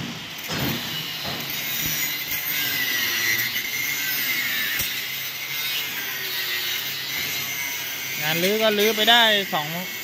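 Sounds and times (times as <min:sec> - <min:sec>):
metal grating being cut: 0:00.0 - 0:10.0.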